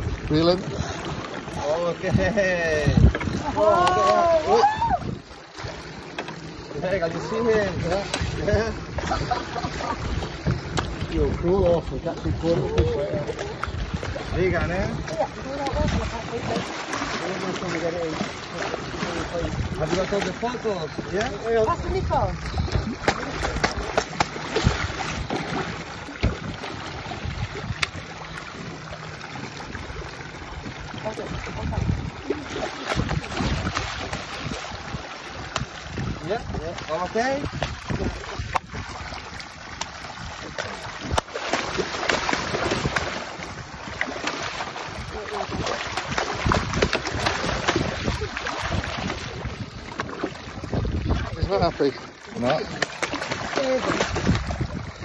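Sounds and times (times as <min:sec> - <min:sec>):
wind on microphone: 0:00.0 - 0:05.8, 0:07.0 - 0:17.0, 0:18.8 - 0:28.2, 0:29.6 - 0:55.0
water sloshing against boat: 0:00.0 - 0:55.0.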